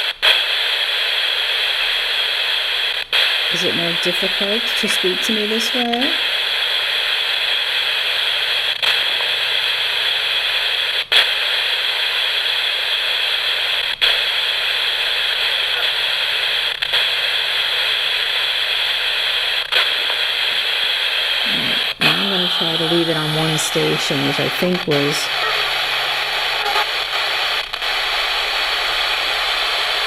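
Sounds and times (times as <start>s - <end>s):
radio static hiss: 0.0s - 30.0s.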